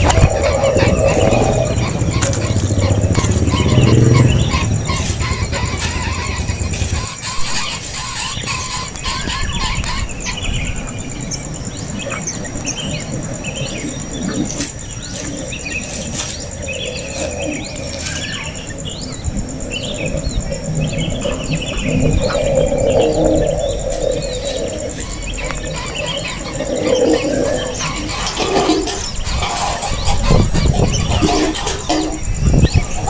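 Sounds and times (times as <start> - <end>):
birds chirping: 0.0 - 33.0
high-pitched insect trill: 0.0 - 33.0.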